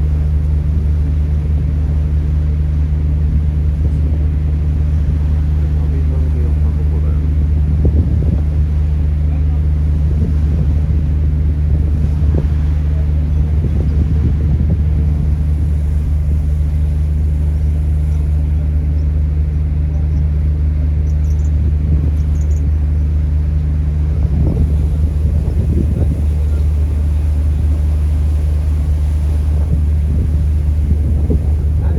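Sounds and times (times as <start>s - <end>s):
ferry engine droning: 0.0s - 31.9s.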